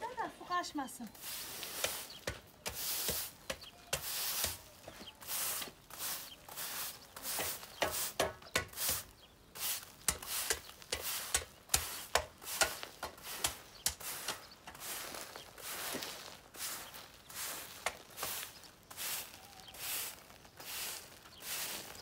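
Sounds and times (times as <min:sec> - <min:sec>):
push broom scraping dirt: 0:01.1 - 0:22.0.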